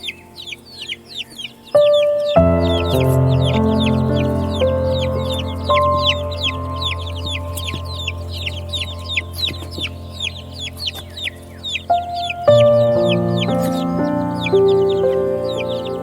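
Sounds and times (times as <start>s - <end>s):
baby chicks peeping: 0.0s - 16.0s
soft sustained music notes: 0.0s - 16.0s.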